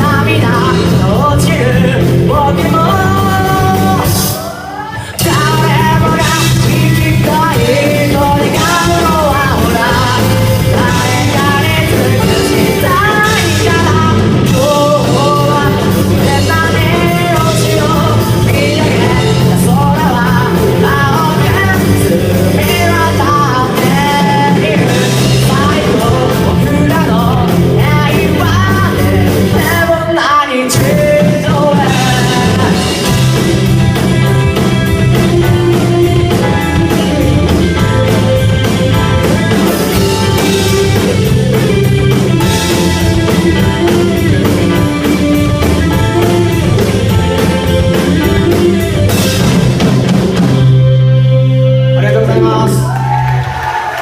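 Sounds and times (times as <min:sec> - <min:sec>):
rock song with singer: 0:00.0 - 0:54.0.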